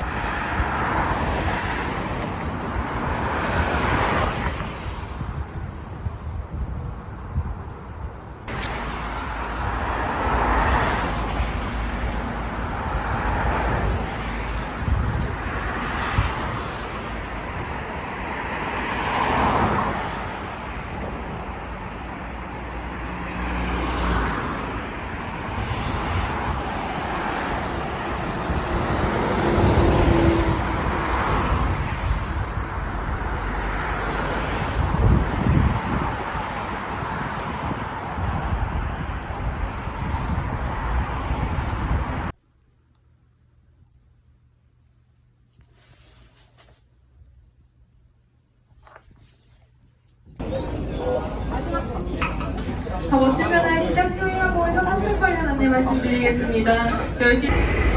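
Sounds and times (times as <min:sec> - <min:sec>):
cars passing: 0:00.0 - 0:42.4, 0:50.4 - 0:57.9
traffic rumble: 0:00.0 - 0:45.6, 0:46.5 - 0:57.9.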